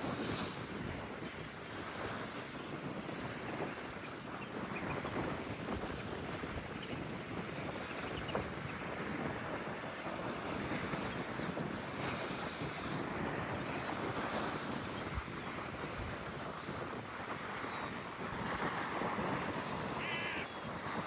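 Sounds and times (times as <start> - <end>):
wind buffeting the microphone: 0.0 - 21.0
sea waves: 1.6 - 21.0.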